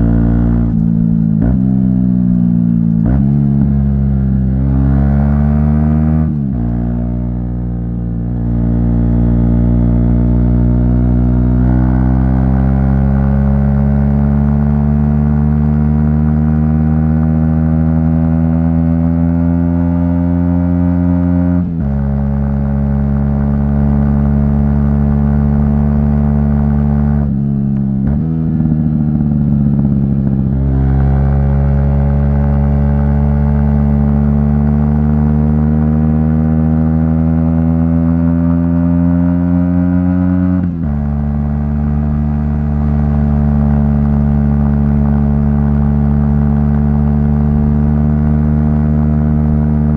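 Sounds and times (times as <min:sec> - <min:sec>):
motorcycle engine revving through gears: 0:00.0 - 0:49.9.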